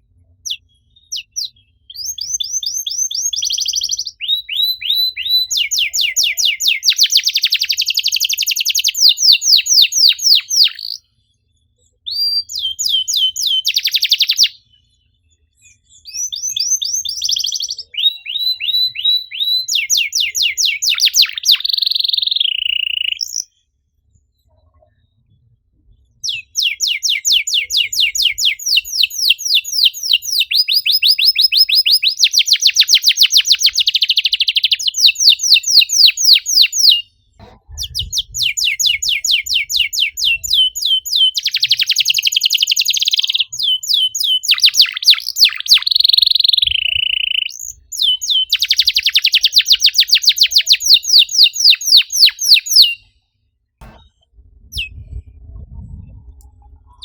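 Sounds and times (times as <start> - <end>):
canary singing fast trills: 0.3 - 11.2, 11.9 - 14.7, 15.8 - 23.6, 26.1 - 53.2.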